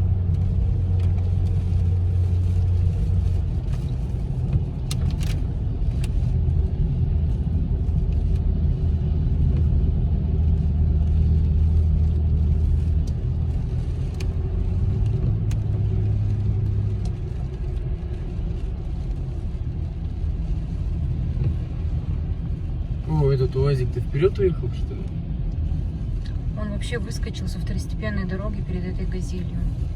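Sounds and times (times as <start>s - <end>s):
car engine and road noise: 0.0s - 29.9s.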